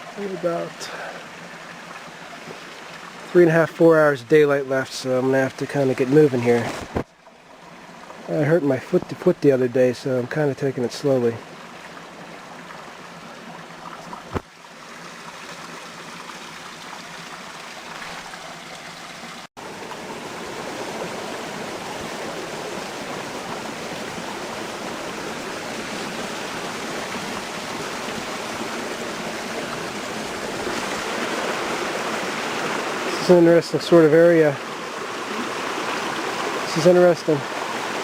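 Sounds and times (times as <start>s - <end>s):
mountain stream flowing: 0.0s - 38.0s.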